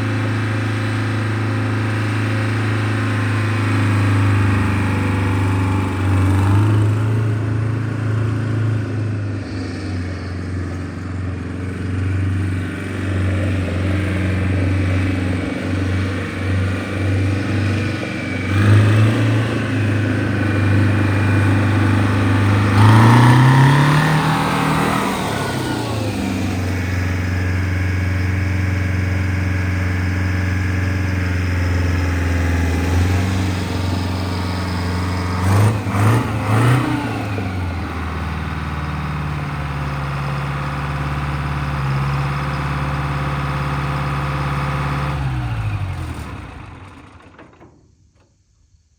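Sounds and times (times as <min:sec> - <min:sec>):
diesel engine running and revving: 0:00.0 - 0:47.5.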